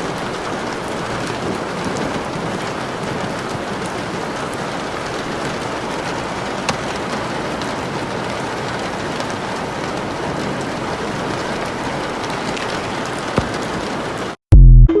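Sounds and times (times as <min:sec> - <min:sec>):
rain pattering: 0:00.0 - 0:14.4.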